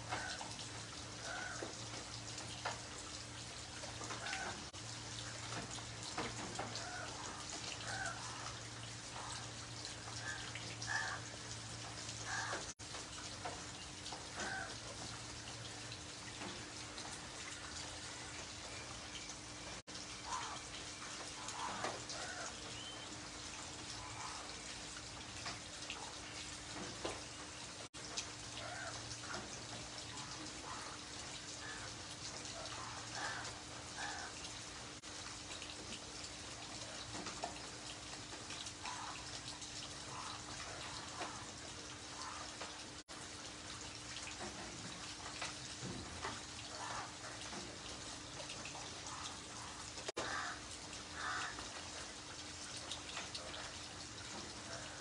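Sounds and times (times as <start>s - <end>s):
rain on concrete and puddles: 0.0s - 55.0s.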